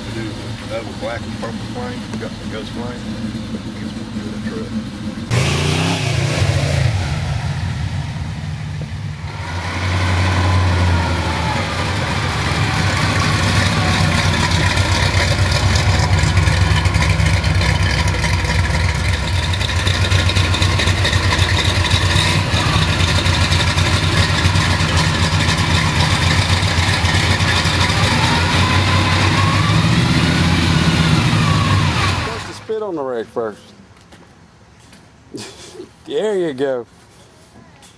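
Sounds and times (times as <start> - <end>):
engine running and revving: 0.0 - 32.6.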